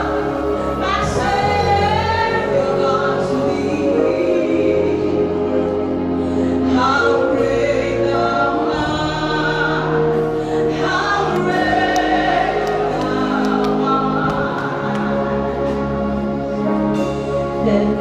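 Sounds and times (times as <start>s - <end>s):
bass accompaniment: 0.0s - 18.0s
gospel choir singing a hymn: 0.0s - 18.0s.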